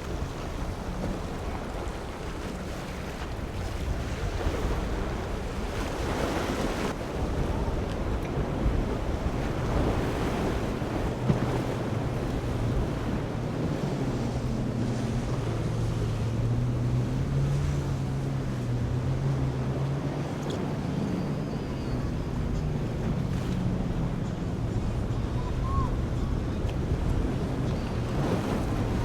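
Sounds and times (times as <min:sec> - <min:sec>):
boat engine droning: 0:00.0 - 0:29.0
surf: 0:00.0 - 0:29.0
wind buffeting microphone: 0:00.0 - 0:29.0.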